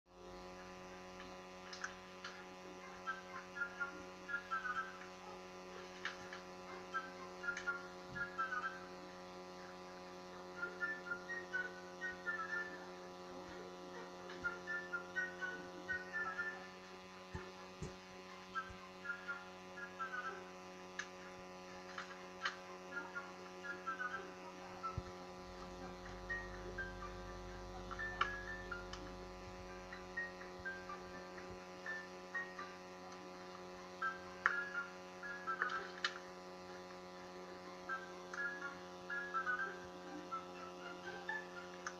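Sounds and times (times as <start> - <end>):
electrical hum: 0.1 - 41.9.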